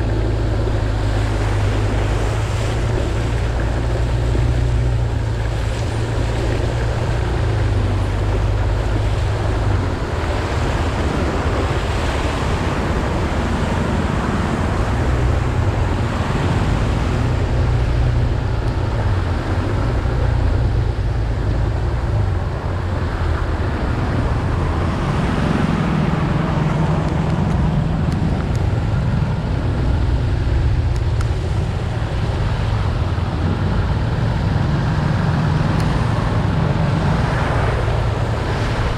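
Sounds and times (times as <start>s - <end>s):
wind and water rushing: 0.0s - 38.9s.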